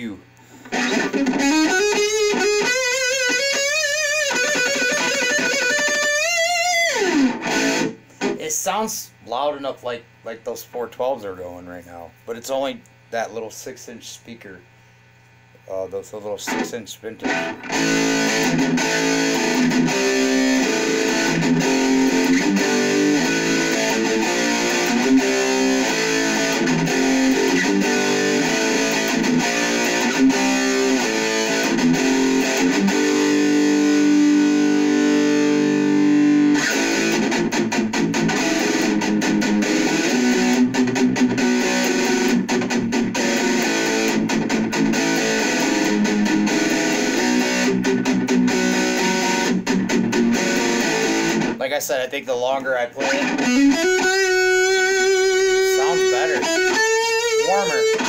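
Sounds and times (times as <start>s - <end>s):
distorted electric guitar riffing: 0.0s - 9.7s, 16.2s - 58.0s.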